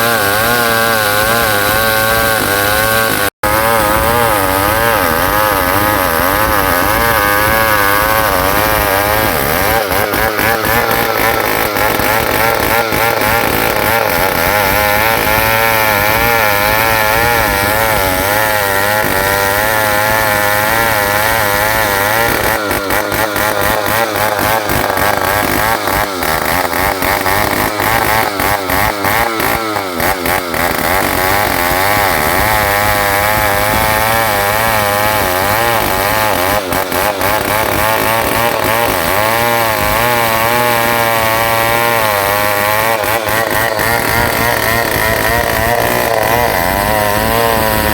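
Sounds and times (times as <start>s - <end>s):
chainsaw cutting log: 0.0s - 47.9s.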